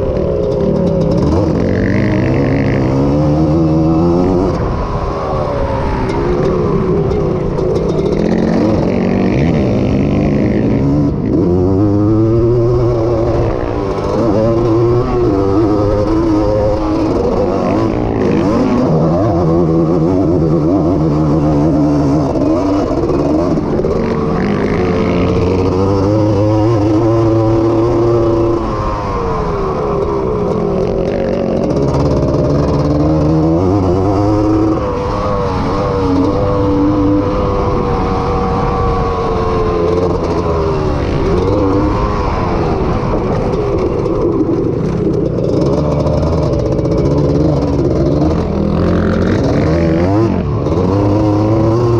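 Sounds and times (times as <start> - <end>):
two-stroke engine racing: 0.0 - 51.9.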